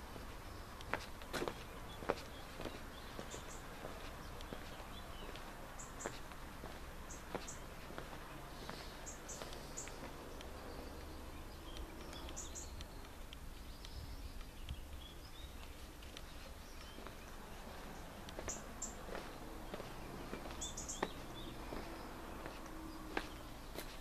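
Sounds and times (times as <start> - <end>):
footsteps on stone paving: 0.0 - 13.7, 14.4 - 24.0
birds chirping: 0.0 - 24.0.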